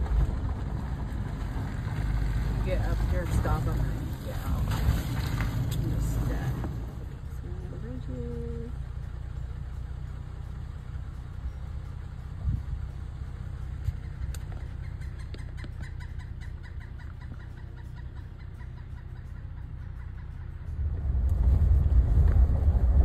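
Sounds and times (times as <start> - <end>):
light ticks and clatter: 0.0 - 23.0
road and engine rumble: 0.0 - 23.0.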